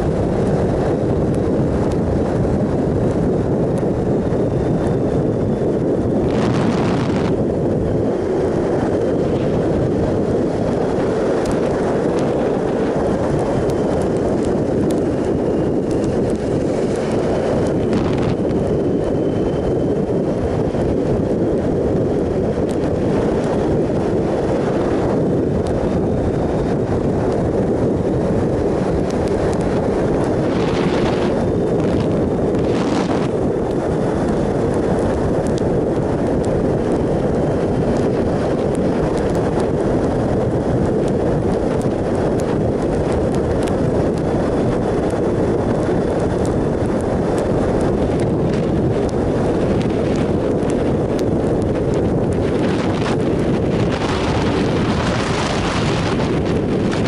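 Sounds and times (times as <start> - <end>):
wind rush over microphone: 0.0 - 57.0.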